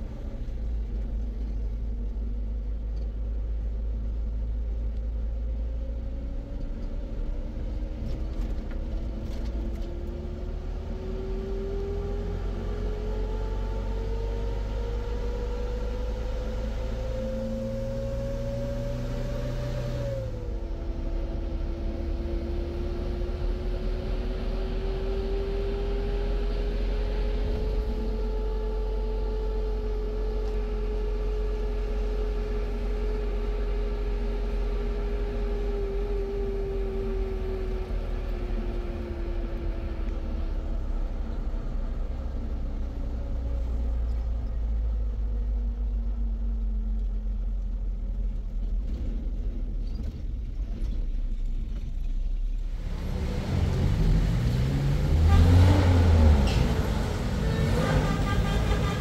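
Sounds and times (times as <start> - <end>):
motor vehicle engine rumble: 0.0 - 59.0.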